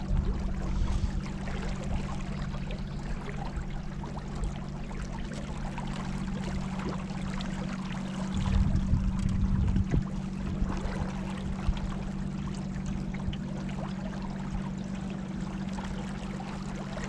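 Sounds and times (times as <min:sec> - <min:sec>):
low rumbling: 0:00.0 - 0:17.0
steady low hum: 0:00.0 - 0:17.0
water splashing along kayak hull: 0:00.0 - 0:17.0.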